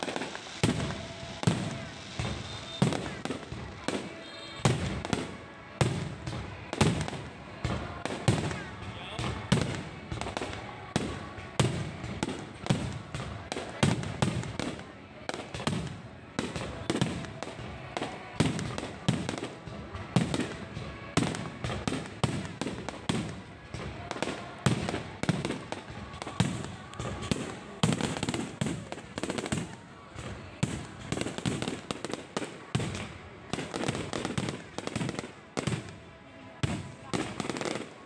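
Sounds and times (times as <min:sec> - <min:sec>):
fireworks bangs and thumps: 0:00.0 - 0:36.0, 0:36.6 - 0:38.0.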